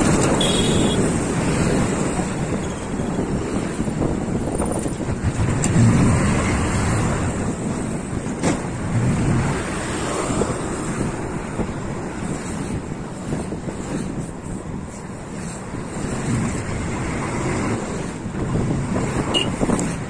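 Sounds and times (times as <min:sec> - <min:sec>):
wind buffeting microphone: 0:01.0 - 0:20.0.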